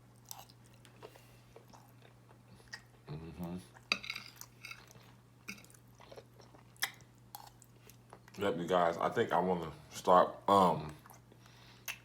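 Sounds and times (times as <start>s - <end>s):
close chewing and mouth sounds: 0.0s - 9.8s, 10.8s - 12.0s.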